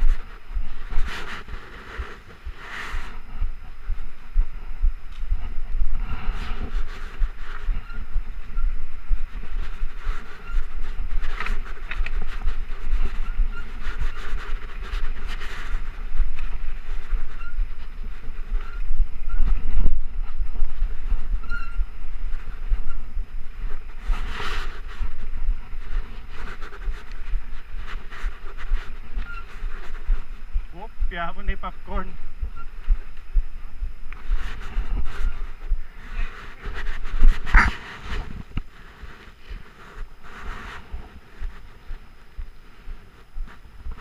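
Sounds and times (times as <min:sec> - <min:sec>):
bike tyres rumbling on dirt trail: 0:00.0 - 0:44.0.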